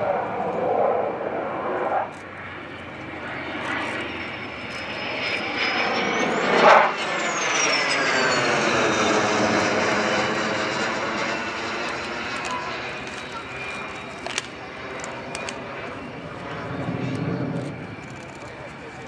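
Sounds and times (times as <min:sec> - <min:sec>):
fighter jet flying past: 0:00.0 - 0:19.0.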